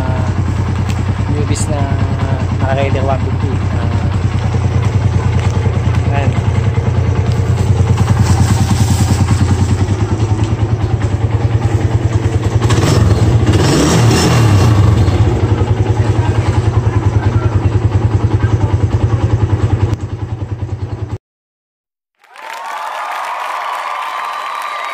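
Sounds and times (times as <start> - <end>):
motorcycle engine idling: 0.0 - 21.2.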